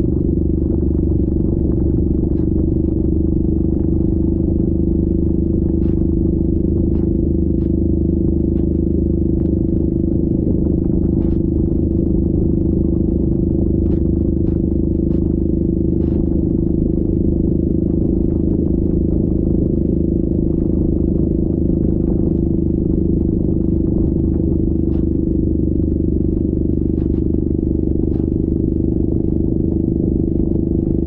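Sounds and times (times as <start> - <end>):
atv engine running: 0.0 - 31.0
sharp clicks and clatters: 0.2 - 31.0.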